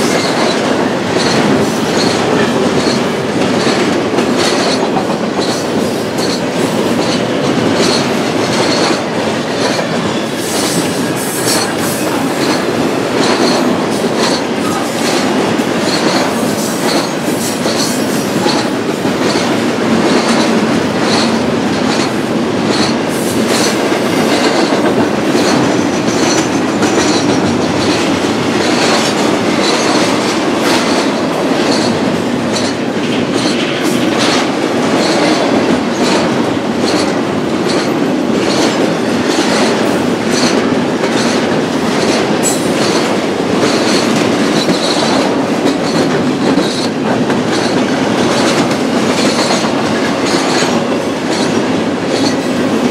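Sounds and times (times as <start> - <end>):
train wheels clicking over rail joints: 0.0 - 52.9.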